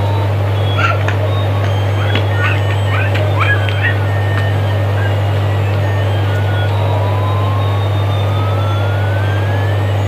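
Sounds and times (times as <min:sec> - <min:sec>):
rising thin whine: 0:00.0 - 0:10.0
toy airplane low hum: 0:00.0 - 0:10.0.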